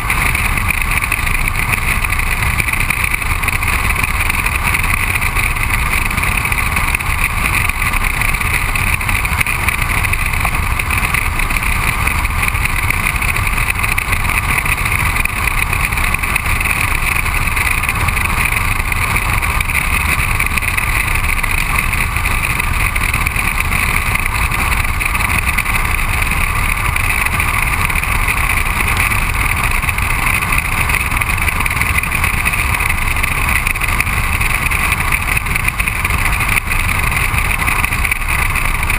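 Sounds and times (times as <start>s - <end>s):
car road noise: 0.0s - 38.9s
tyre and engine rumble: 0.0s - 38.9s.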